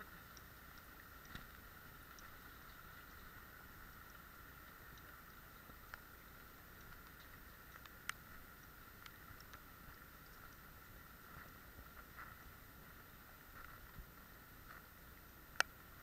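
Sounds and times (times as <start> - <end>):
faint steady hiss: 0.0 - 16.0
small ticks: 0.0 - 16.0.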